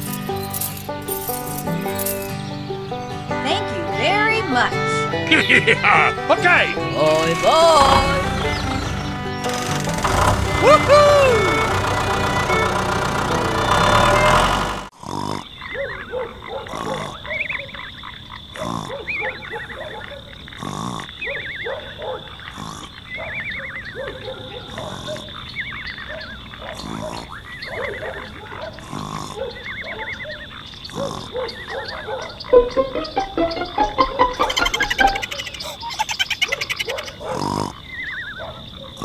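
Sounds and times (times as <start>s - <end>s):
frogs croaking: 0.0s - 39.0s.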